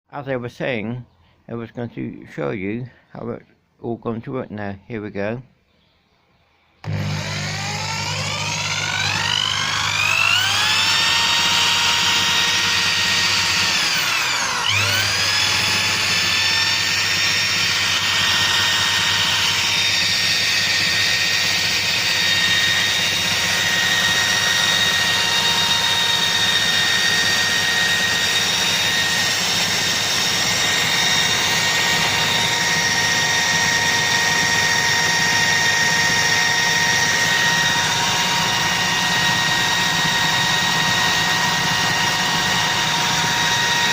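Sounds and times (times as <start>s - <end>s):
wheel grinder whining: 6.8s - 43.9s.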